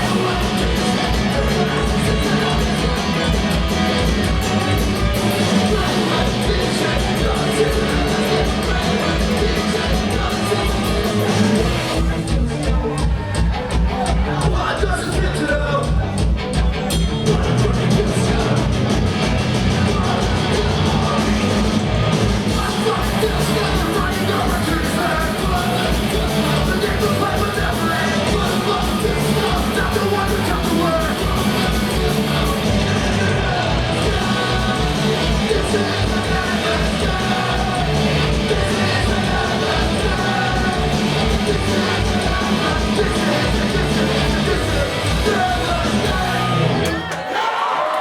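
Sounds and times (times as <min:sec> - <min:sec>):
rapid kick-drum beat: 0:00.0 - 0:47.2
distorted electric guitars: 0:00.0 - 0:47.3
punk band playing: 0:00.0 - 0:47.4
person singing: 0:00.0 - 0:48.0.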